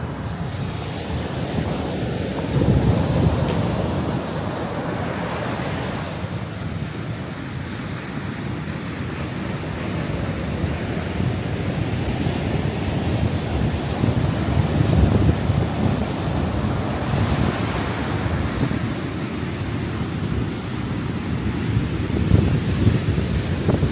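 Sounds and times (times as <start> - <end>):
surf breaking on beach: 0.0 - 23.9
wind rumble on microphone: 0.0 - 23.9.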